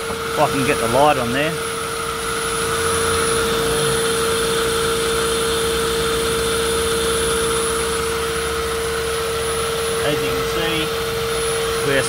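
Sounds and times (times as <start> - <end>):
car engine idling: 0.0 - 12.0
constant whine: 0.0 - 12.0.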